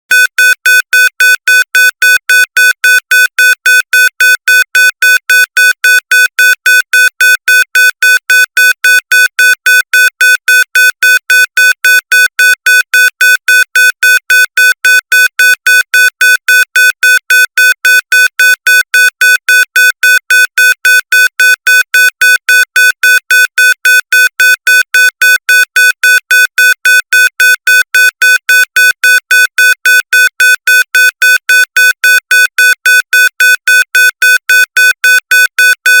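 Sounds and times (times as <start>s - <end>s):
cockpit warning alarm beeping: 0.1s - 36.0s.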